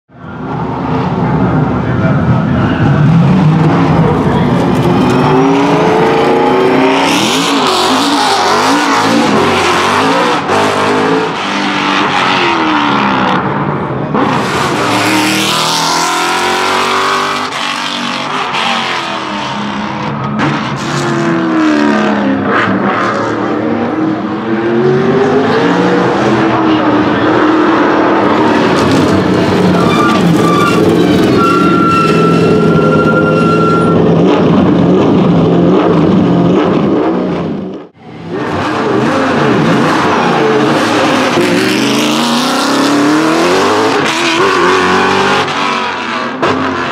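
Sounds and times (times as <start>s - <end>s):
race car engine revving: 0.3s - 46.9s.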